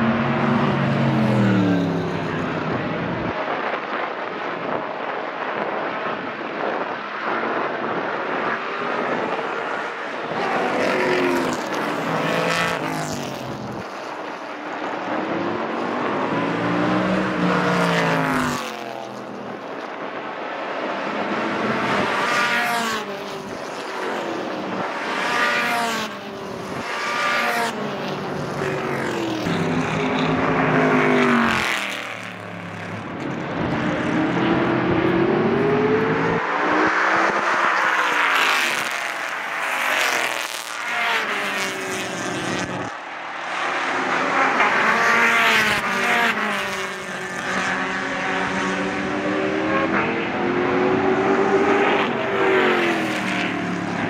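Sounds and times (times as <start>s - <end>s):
race car engines revving past: 0.0s - 4.8s, 5.5s - 54.0s.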